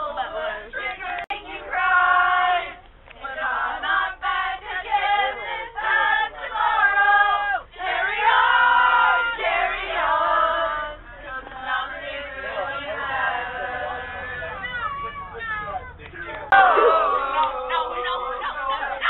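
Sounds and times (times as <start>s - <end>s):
group of voices singing: 0.0s - 14.9s, 16.2s - 19.0s.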